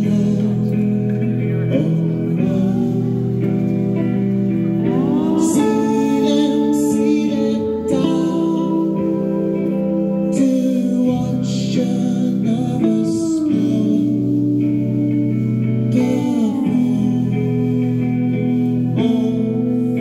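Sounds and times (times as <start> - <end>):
rock band electric guitars: 0.0 - 20.0.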